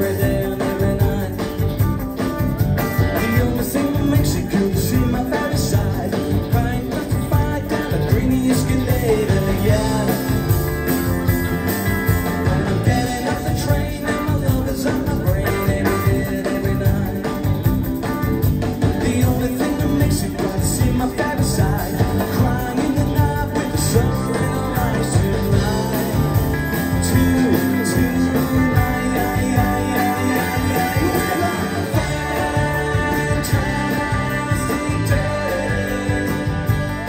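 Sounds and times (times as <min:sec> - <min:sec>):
drums: 0:00.0 - 0:37.0
electric guitars: 0:00.0 - 0:37.0
live pop-rock band: 0:00.0 - 0:37.0.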